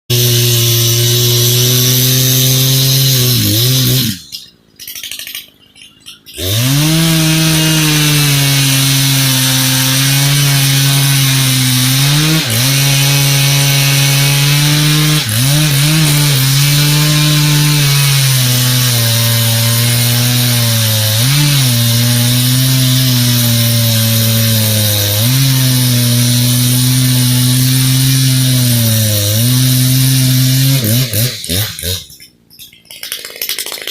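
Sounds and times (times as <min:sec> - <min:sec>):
chainsaw cutting logs: 0:00.1 - 0:05.4, 0:06.2 - 0:32.3.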